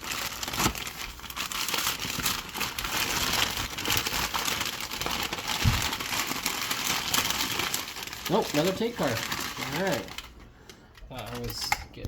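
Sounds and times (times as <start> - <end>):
paper wrapping crinkling: 0.0 - 11.6.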